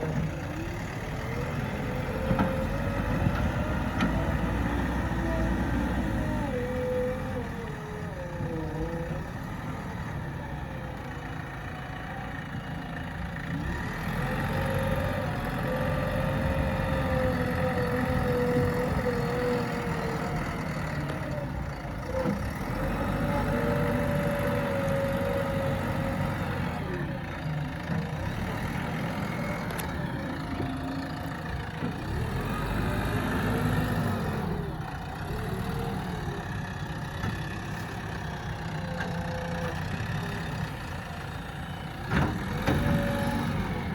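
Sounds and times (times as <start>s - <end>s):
backhoe loader engine running: 0.0s - 43.9s
engine whine: 0.0s - 43.9s.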